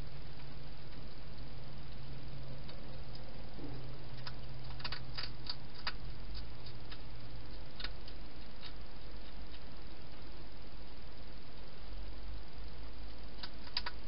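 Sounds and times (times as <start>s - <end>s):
steady low hum: 0.0s - 14.0s
hedgehog feeding clicks: 0.3s - 3.3s, 4.1s - 14.0s.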